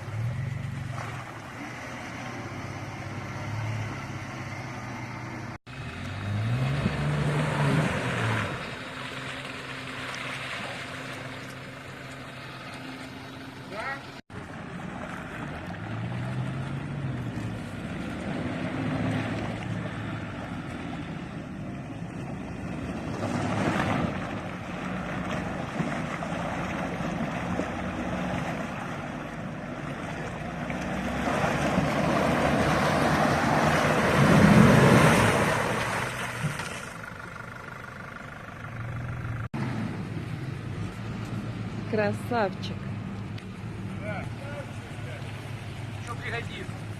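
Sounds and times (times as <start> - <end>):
off-road engine revving and straining: 0.0 - 46.9
tyres churning through mud: 0.0 - 46.9.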